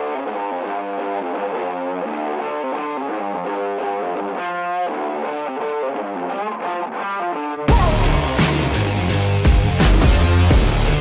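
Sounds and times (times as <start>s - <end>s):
distorted guitar music: 0.0s - 11.0s.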